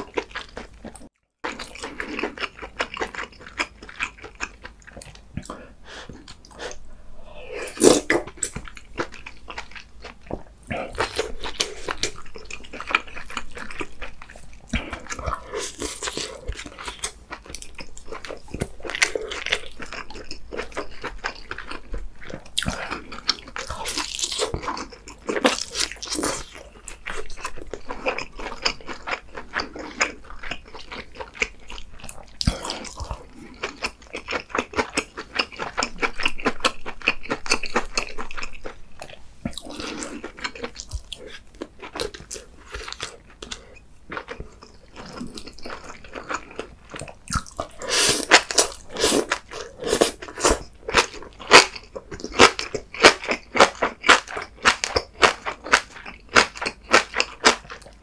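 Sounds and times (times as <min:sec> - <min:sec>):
close chewing and biting: 0:00.0 - 0:58.0.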